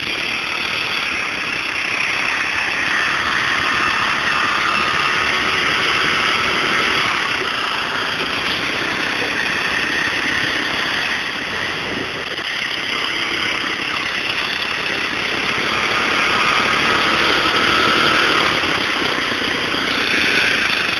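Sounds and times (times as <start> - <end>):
faint high whine: 0.0 - 20.9
garden tractor engine running: 0.0 - 20.9.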